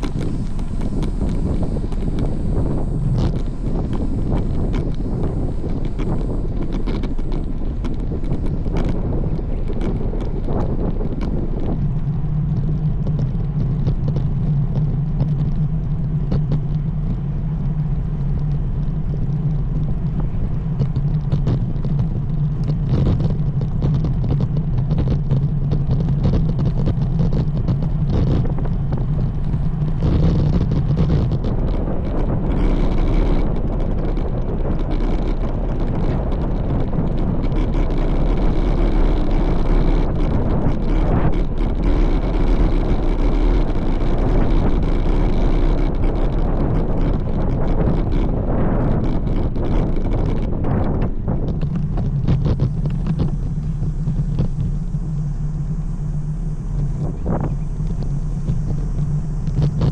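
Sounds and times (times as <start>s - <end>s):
steady low hum: 0.0s - 59.9s
wind rushing over microphone: 0.0s - 59.9s.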